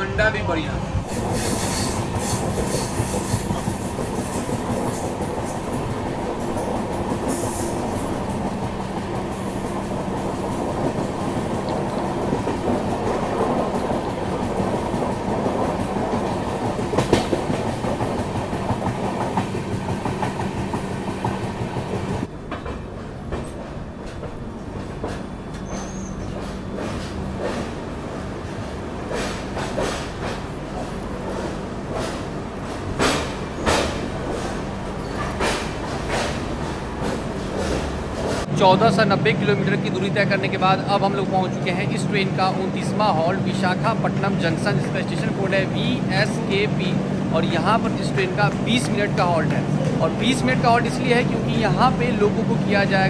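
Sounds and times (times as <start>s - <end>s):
train wheels rumbling on rails: 0.5s - 53.0s
clickety-clack over rail joints: 1.5s - 38.5s, 41.8s - 53.0s.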